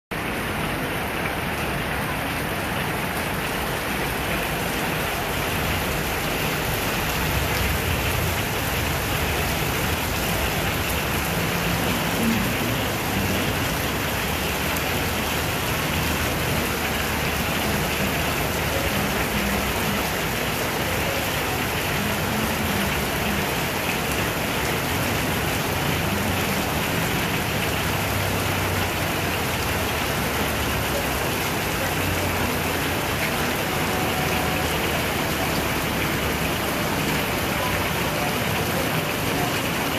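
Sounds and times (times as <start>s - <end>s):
heavy rain on street: 0.1s - 39.9s
vehicles passing on wet road: 0.1s - 39.9s.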